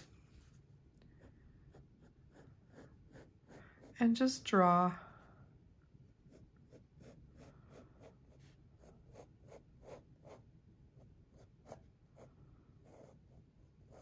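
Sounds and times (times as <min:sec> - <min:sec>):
pencil sketching on paper: 0:00.0 - 0:05.3, 0:06.0 - 0:14.0.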